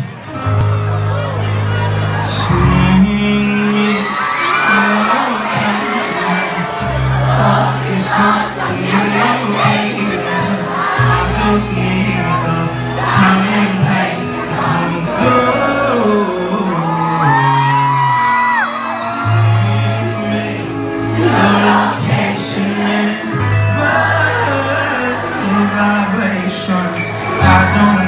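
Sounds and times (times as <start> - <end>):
crowd whooping and shouting: 0.0 - 28.0
live music with deep bass: 0.0 - 28.0
person singing: 2.0 - 28.0.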